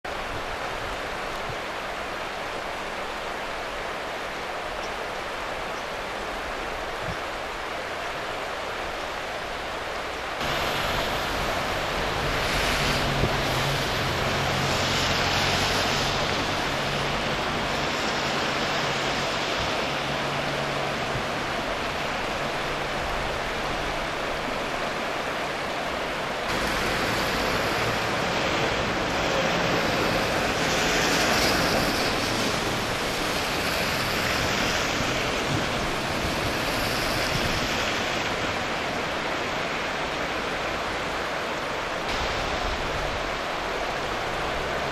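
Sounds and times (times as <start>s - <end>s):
river rushing over stones: 0.0s - 44.9s.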